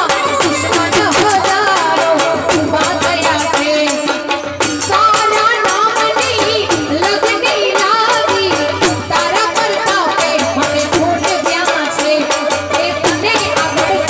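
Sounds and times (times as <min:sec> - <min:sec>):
fast percussion beat: 0:00.0 - 0:14.0
harmonium: 0:00.0 - 0:14.0
woman singing into microphone: 0:00.0 - 0:14.0.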